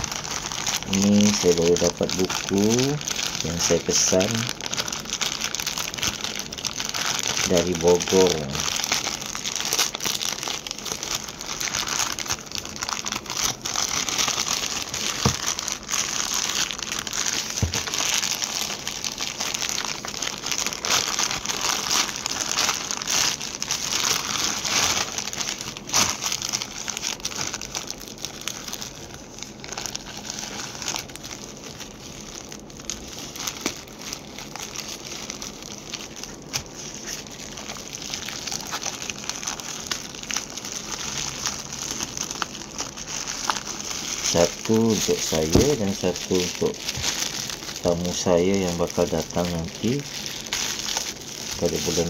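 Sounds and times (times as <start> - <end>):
plastic wrapping crackling: 0.0 - 52.0.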